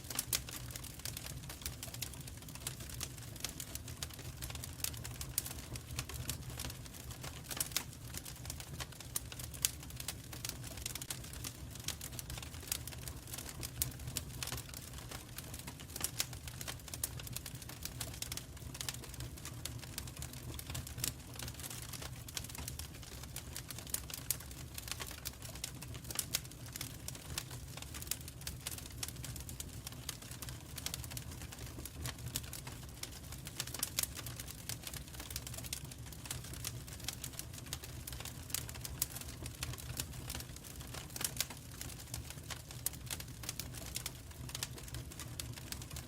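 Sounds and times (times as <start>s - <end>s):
fire crackling and popping: 0.0s - 46.0s
low rumble of flames: 0.0s - 46.0s.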